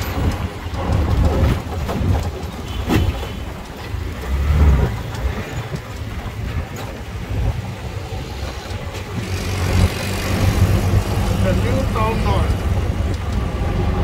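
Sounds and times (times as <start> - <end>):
auto-rickshaw engine rumble: 0.0 - 14.0.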